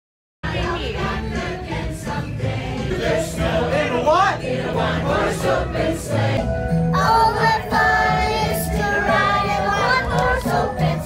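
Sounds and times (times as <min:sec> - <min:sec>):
backing music: 0:00.4 - 0:11.0
passengers singing together: 0:00.4 - 0:11.0.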